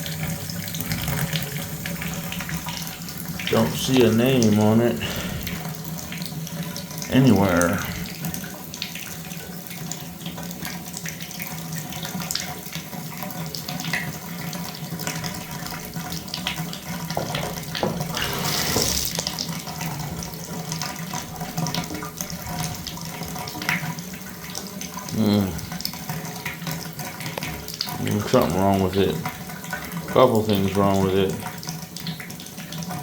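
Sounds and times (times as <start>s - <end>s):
water running from shower: 0.0s - 33.0s.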